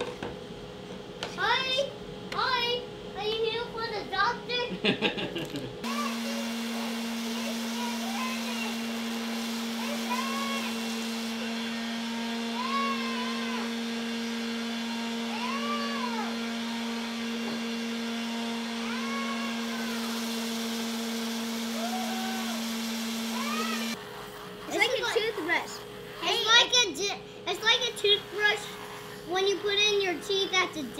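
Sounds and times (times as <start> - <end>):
orbital sander running: 4.8 - 30.9.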